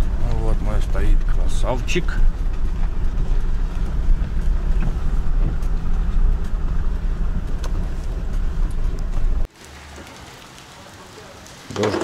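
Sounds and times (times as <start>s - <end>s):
road noise: 0.0s - 12.0s
vehicle engine rumbling: 0.0s - 12.0s.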